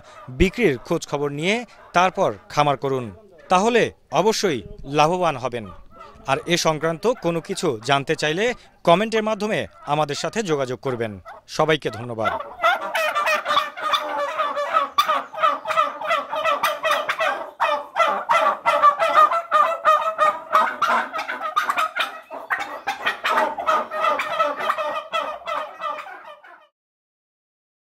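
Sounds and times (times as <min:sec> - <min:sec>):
turkeys gobbling: 0:00.0 - 0:26.7.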